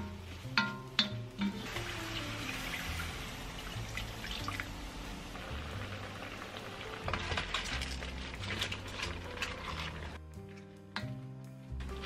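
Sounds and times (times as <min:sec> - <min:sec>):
crackles from wok: 0:00.0 - 0:11.1
soft background music: 0:00.0 - 0:12.0
wok sizzling and bubbling: 0:00.0 - 0:12.0.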